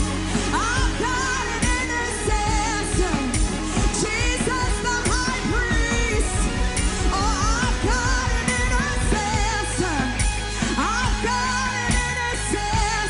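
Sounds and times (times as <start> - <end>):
worship band playing: 0.0 - 13.0.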